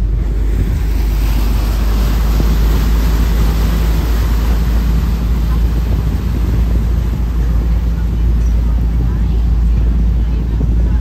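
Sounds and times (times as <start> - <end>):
rushing water and wind: 0.0 - 11.0
ship engine rumbling: 0.0 - 11.0.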